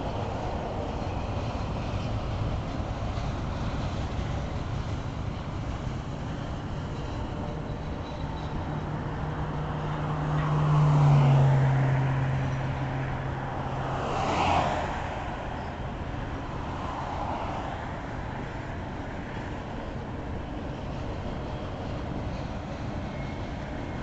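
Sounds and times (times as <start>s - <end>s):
low hum of passing train: 0.0s - 24.0s
train wheels rumbling on rails: 0.0s - 24.0s.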